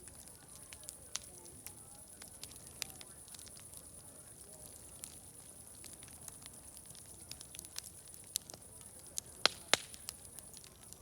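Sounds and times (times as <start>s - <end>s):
sharp fire pops: 0.0s - 11.0s
wood fire crackling: 0.0s - 11.0s.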